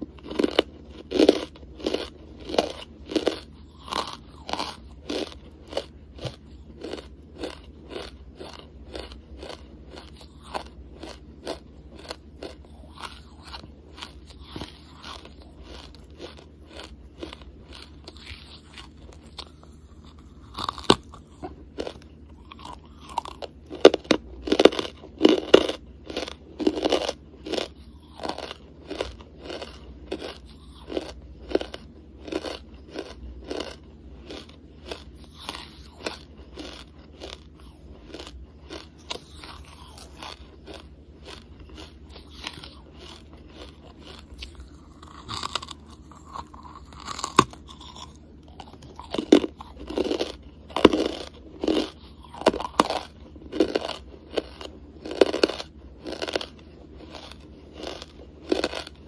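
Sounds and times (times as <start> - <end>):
charcoal crunching when chewed: 0.0 - 59.0.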